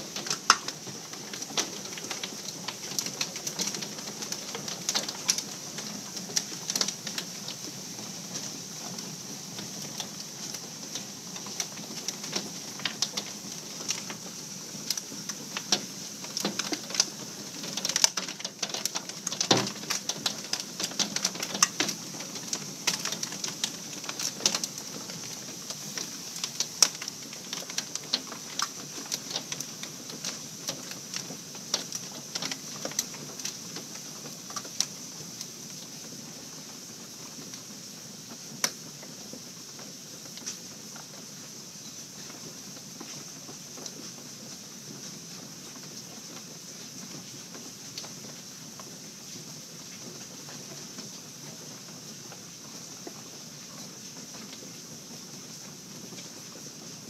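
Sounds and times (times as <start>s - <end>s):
hail pelting cover and deck: 0.0s - 57.0s.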